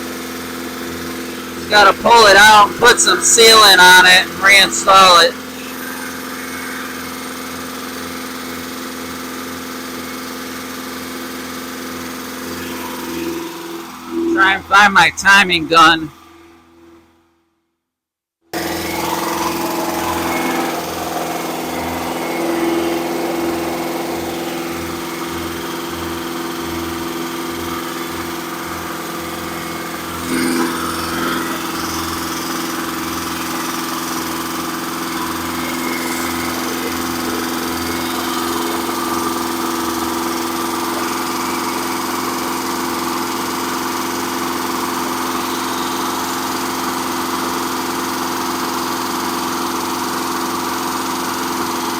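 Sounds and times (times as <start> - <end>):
engine running steadily: 0.0 - 17.0, 18.6 - 51.9.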